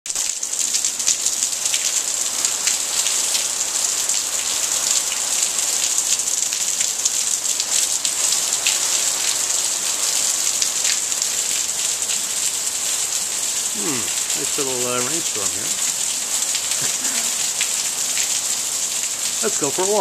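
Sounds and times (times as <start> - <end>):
heavy rain downpour: 0.1 - 20.0
raindrops splashing close by: 0.1 - 20.0.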